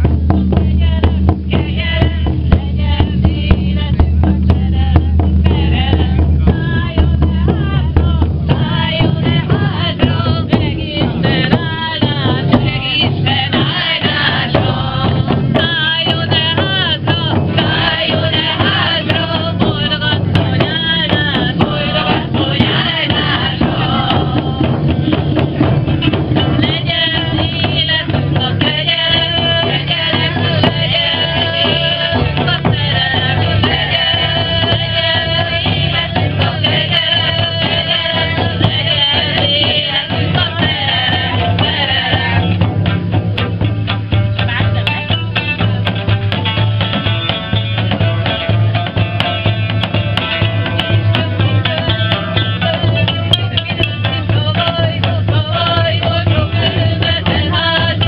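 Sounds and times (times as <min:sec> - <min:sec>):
frame drums beating: 0:00.0 - 0:58.0
voices singing together: 0:00.0 - 0:58.0.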